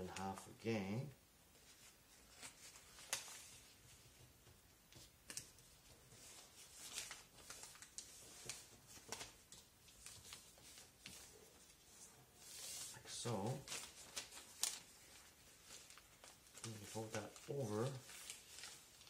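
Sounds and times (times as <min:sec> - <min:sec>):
newspaper rustling and crinkling: 0:01.6 - 0:19.0.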